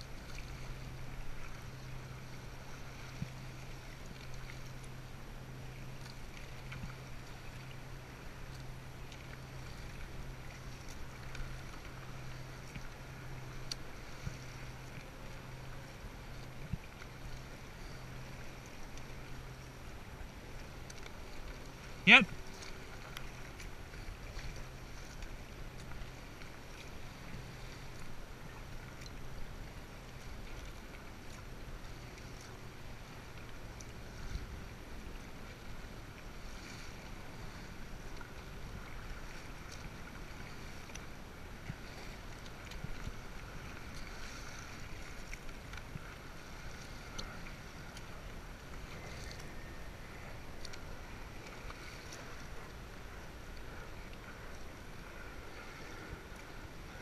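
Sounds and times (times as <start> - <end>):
kayak paddle strokes: 0.0 - 57.0
water splashing against hull: 0.0 - 57.0.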